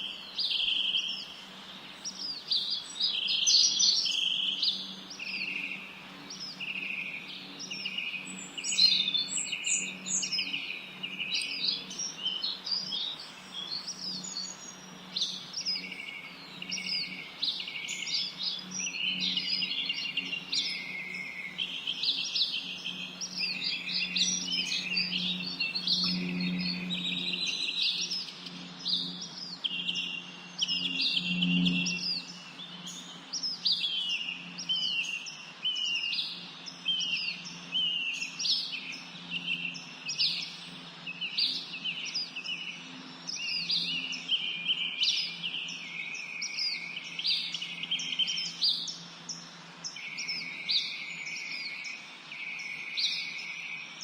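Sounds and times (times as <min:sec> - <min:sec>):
birds chirping and whistling: 0:00.0 - 0:54.0.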